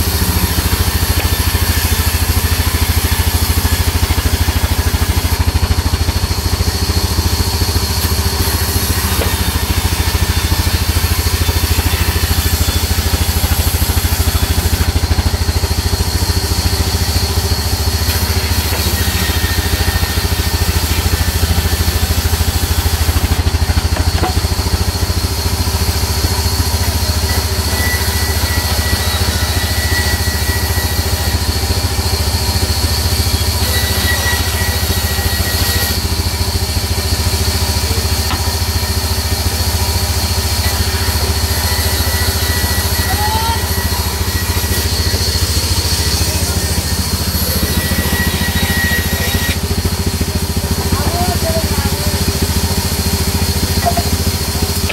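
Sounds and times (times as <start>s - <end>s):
band saw cutting planks: 0.0s - 54.9s.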